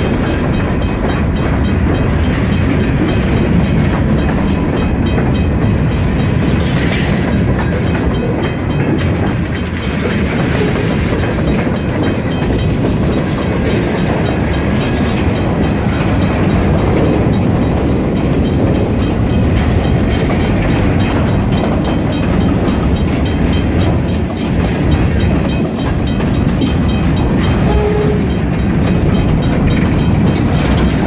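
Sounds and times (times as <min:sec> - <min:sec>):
freight train rumbling past: 0:00.0 - 0:31.0
wheels clacking over rail joints: 0:00.0 - 0:31.0.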